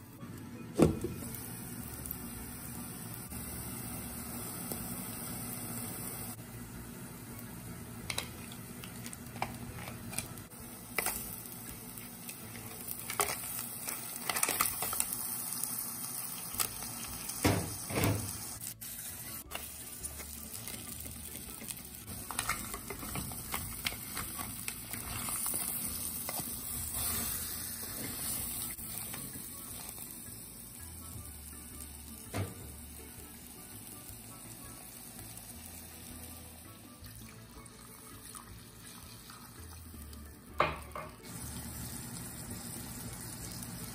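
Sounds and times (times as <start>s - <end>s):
masala sizzling in a pan: 1.1s - 43.9s.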